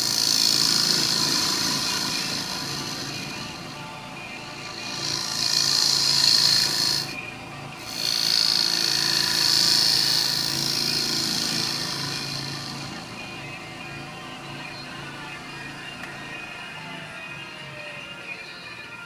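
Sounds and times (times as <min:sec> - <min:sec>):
lathe gouge cutting wood: 0:00.0 - 0:16.4.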